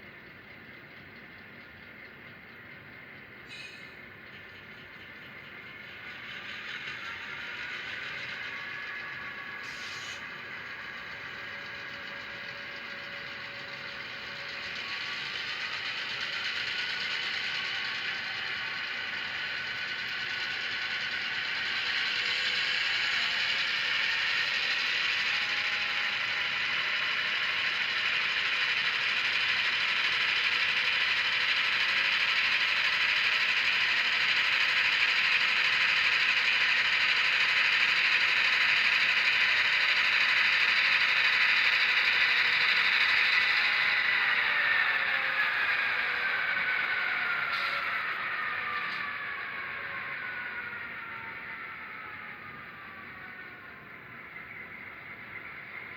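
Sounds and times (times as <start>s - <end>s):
model train engine sounds: 0.0s - 55.9s.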